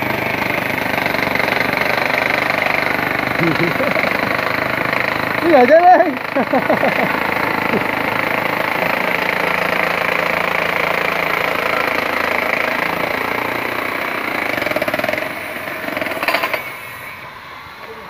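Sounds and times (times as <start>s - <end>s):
jackhammer breaking concrete: 0.0s - 17.2s.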